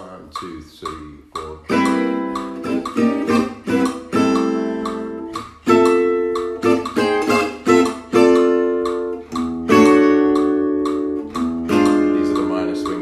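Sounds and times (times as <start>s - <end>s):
acoustic guitar strummed chords: 1.0s - 13.0s.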